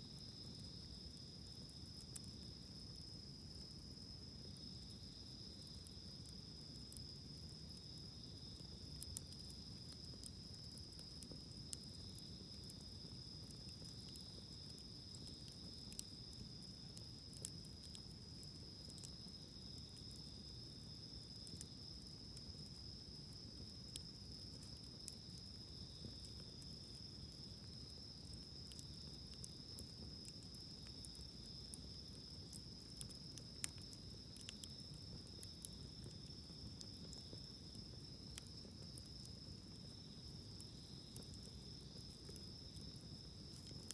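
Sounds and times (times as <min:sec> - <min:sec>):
campfire crackling: 0:00.0 - 0:43.9
insects chirring: 0:00.0 - 0:43.9.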